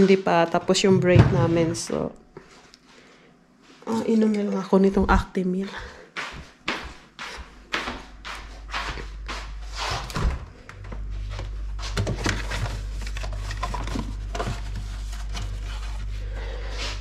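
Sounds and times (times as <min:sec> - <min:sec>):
refrigerator low hum: 0:00.0 - 0:17.0.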